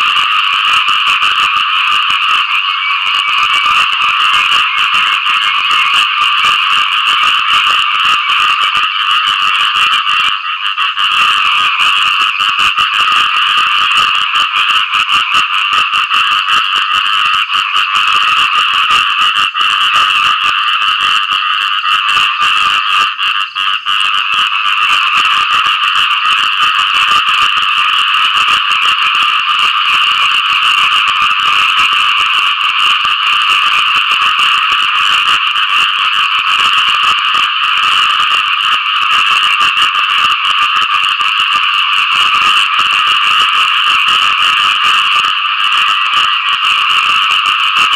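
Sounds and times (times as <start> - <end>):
chorus of frogs calling: 0.0 - 47.9.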